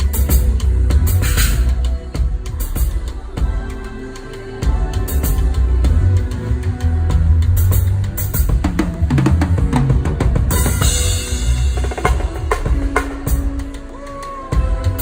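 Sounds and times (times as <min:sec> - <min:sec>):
heavy bass line: 0:00.0 - 0:13.9
drum kit played hard: 0:00.0 - 0:15.0.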